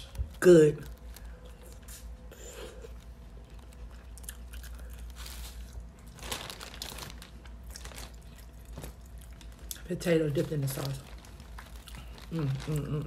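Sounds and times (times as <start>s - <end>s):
person chewing wetly: 0.0s - 6.4s, 7.5s - 9.9s, 11.2s - 12.9s
plastic bag crinkling: 0.0s - 13.0s.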